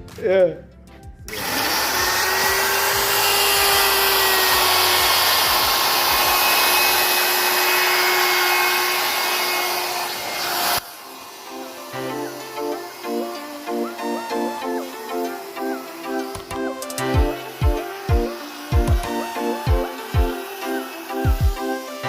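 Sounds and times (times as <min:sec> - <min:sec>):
wood router whining: 0:01.3 - 0:22.0.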